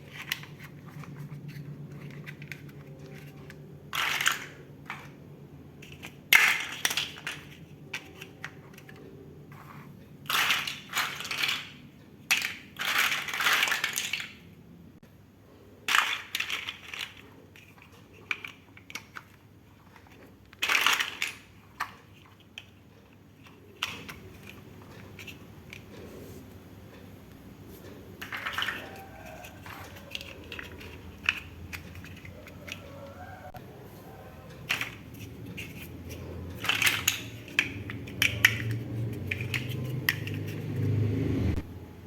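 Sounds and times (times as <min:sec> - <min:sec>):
plastic toy bricks clattering: 0:00.0 - 0:14.6, 0:15.8 - 0:26.0, 0:28.2 - 0:33.4, 0:34.4 - 0:40.9
toy bricks clicking together: 0:00.0 - 0:14.6, 0:15.8 - 0:26.0, 0:28.2 - 0:33.6, 0:34.4 - 0:40.9.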